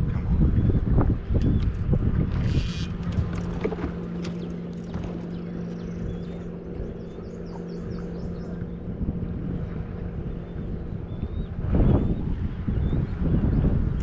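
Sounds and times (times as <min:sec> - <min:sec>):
boat motor humming: 0:00.0 - 0:14.0
wind buffeting microphone: 0:00.0 - 0:14.0.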